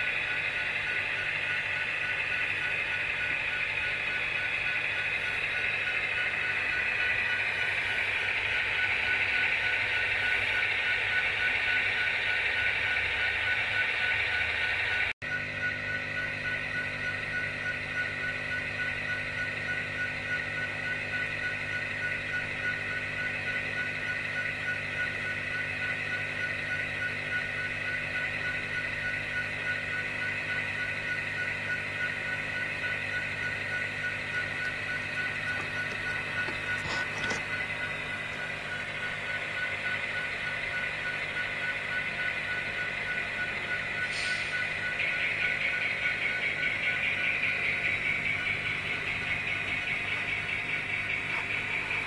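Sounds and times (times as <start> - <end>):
model train whirring: 0.0 - 15.1, 16.2 - 52.0.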